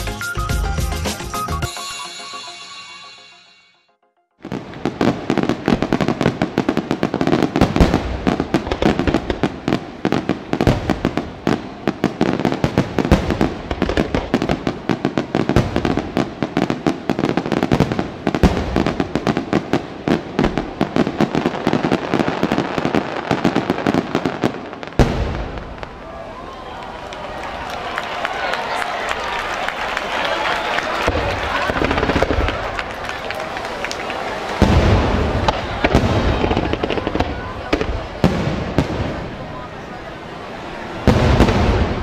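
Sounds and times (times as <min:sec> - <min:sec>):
fireworks bursting and crackling: 0:04.4 - 0:42.0.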